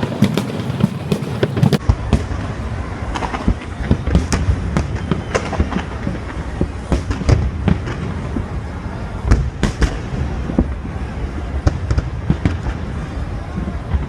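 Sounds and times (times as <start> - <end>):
fireworks bangs and cracks: 0.0 - 14.0
low rumble of explosions: 0.0 - 14.0.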